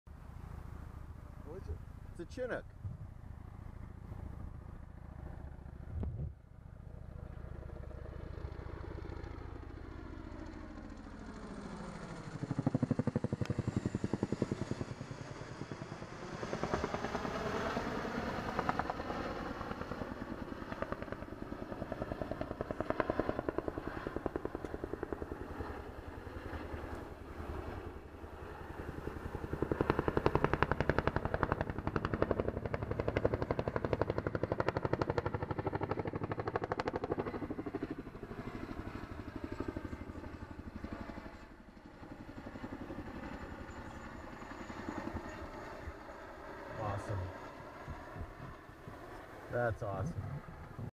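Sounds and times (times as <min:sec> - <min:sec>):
helicopter rotor chopping: 0:01.2 - 0:50.9.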